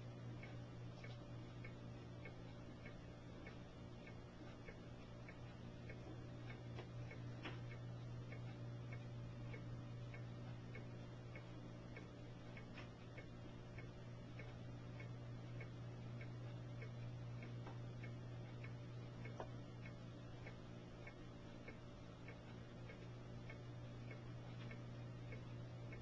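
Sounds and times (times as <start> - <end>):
faint regular ticking: 0.0 - 26.0
steady low hum: 0.0 - 26.0.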